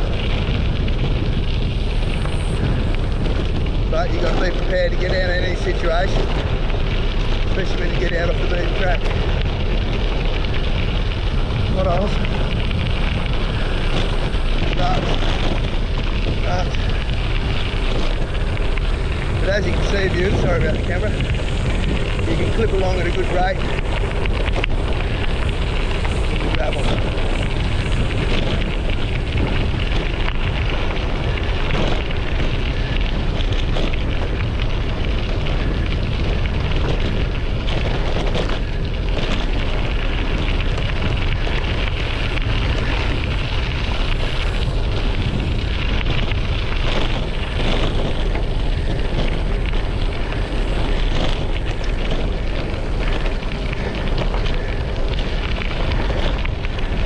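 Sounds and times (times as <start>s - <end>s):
bicycle tyres on gravel: 0.0s - 57.0s
wind buffeting microphone: 0.0s - 57.0s.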